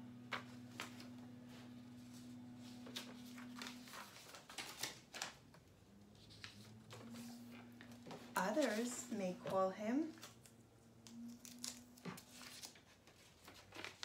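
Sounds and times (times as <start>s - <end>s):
low steady hum: 0.0s - 14.0s
paper and tape rustling: 0.3s - 5.6s, 6.2s - 10.5s, 11.1s - 14.0s.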